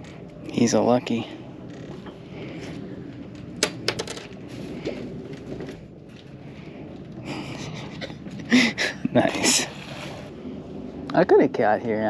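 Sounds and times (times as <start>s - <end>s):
low wind rumble on microphone: 0.0s - 12.0s.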